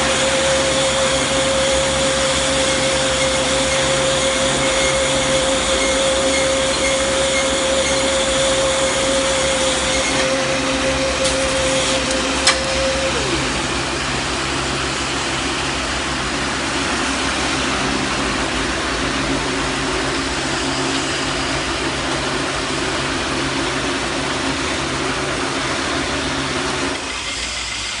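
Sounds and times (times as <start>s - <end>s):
baler machinery running: 0.0s - 28.0s
high whine: 0.0s - 28.0s.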